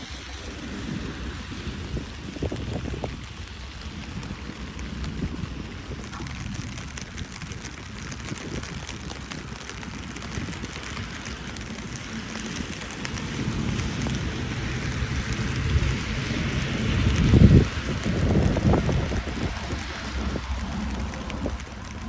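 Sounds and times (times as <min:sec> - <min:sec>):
low rumble: 0:00.0 - 0:22.0
rain hiss: 0:00.0 - 0:22.0.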